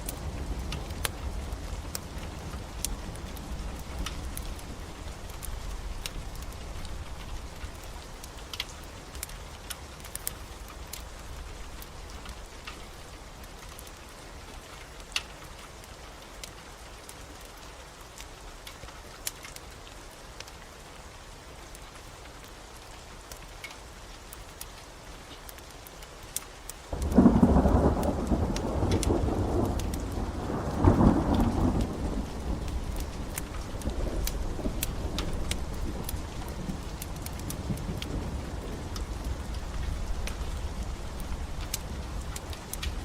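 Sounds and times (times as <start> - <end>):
rain falling: 0.0 - 43.0
wood fire crackling: 0.0 - 43.0.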